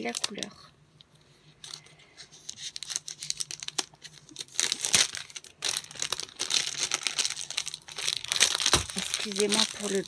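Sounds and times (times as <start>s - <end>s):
plastic wrapping crinkling: 0.0s - 0.7s, 1.5s - 10.0s.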